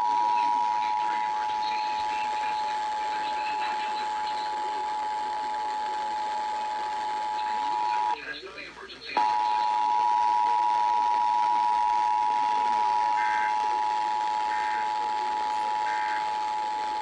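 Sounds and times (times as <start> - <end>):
two-tone alarm signal: 0.0 - 8.2, 9.2 - 17.0.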